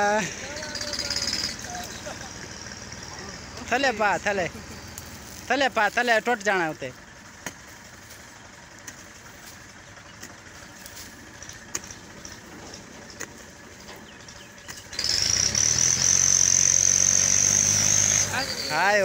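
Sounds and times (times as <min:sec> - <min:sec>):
engine running loudly: 0:00.0 - 0:19.0.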